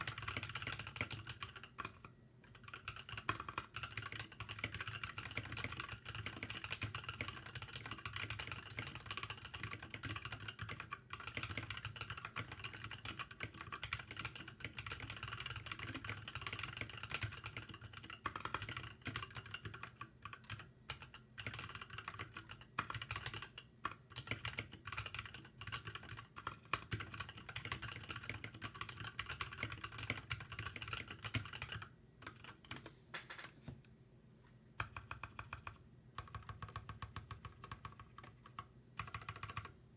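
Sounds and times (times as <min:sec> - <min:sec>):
mechanical keyboard typing: 0:00.0 - 0:33.5, 0:34.8 - 0:39.7.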